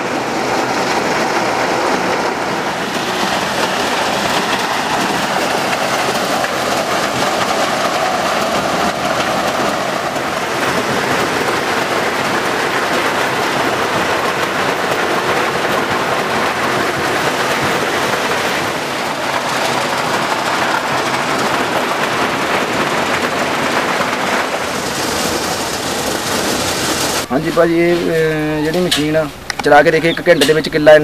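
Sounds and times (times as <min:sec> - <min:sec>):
maize sheller rattling: 0:00.0 - 0:31.0.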